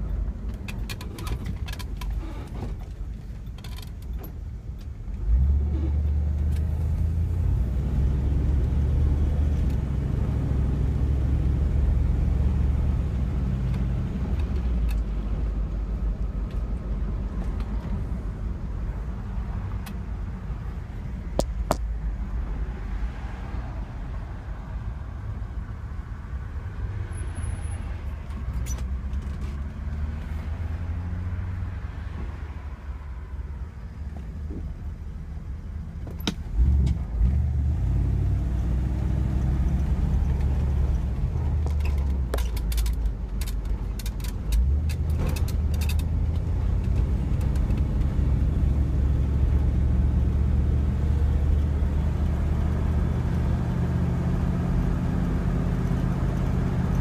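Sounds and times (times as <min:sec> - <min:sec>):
road noise rumble: 0:00.0 - 0:57.0.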